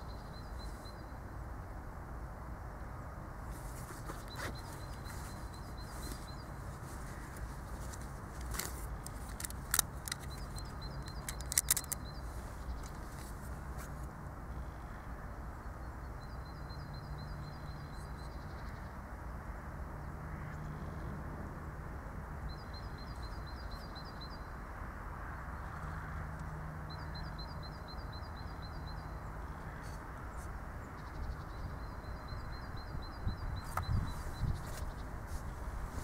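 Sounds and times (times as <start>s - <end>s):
low outdoor background noise: 0.0s - 36.0s.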